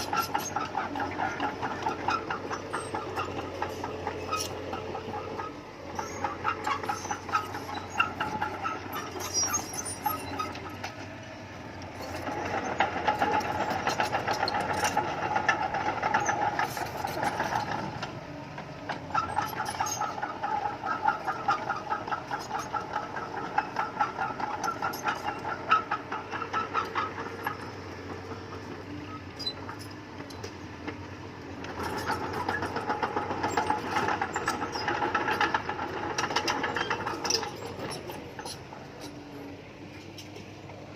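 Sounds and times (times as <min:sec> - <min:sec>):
bulldozer diesel engine: 0:00.0 - 0:40.9
short clanks: 0:00.0 - 0:40.9.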